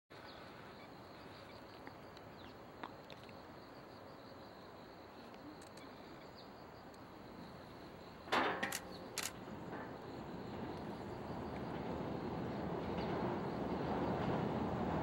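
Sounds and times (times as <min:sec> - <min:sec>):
insects chirring: 0:00.2 - 0:15.0.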